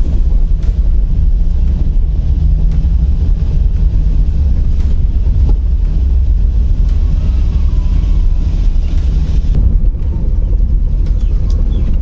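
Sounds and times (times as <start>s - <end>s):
car rumble on brick road: 0.0s - 12.0s.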